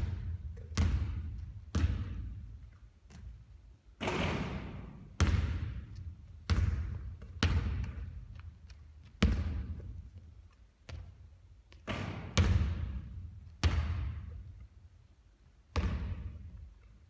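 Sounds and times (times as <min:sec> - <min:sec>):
basketball bouncing with echo: 0:00.0 - 0:10.2, 0:10.9 - 0:14.7, 0:15.7 - 0:16.7.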